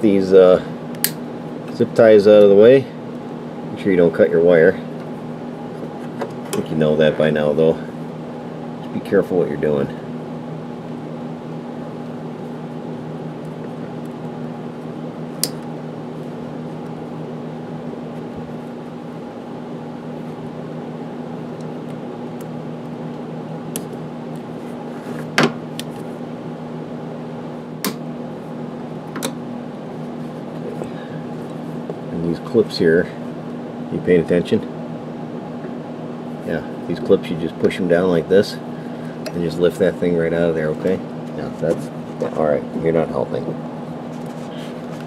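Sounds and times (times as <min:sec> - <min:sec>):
machine hum: 0:00.0 - 0:45.0.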